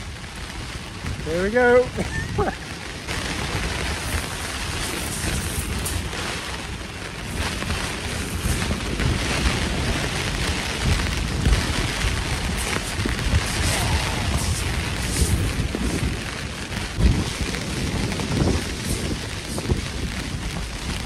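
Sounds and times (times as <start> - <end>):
gusty wind buffeting microphone: 0.0 - 21.0
low rumble: 0.0 - 21.0
rain hissing: 0.0 - 21.0.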